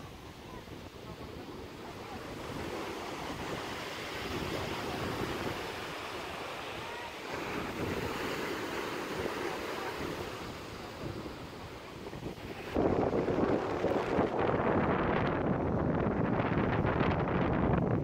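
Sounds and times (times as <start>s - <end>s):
waves breaking: 0.0s - 15.8s
wind buffeting microphone: 0.0s - 18.0s.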